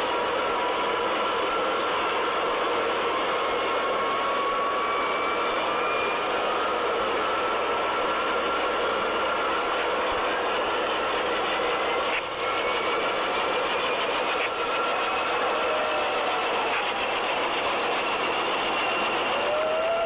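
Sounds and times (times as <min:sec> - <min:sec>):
high turbine whine: 0:00.0 - 0:20.0
turboshaft engines running: 0:00.0 - 0:20.0.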